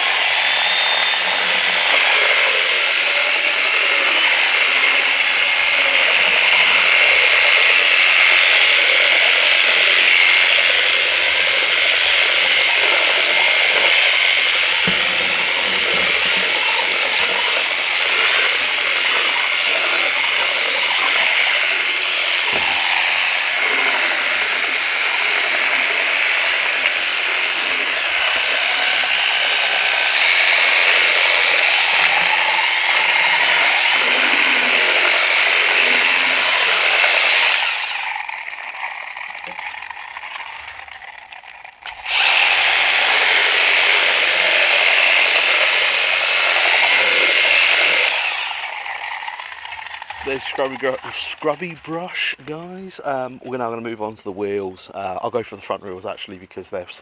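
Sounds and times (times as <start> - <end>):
water spray hissing: 0.0 - 38.3, 41.9 - 55.2
pressure washer motor whine: 0.0 - 40.7, 41.8 - 53.0.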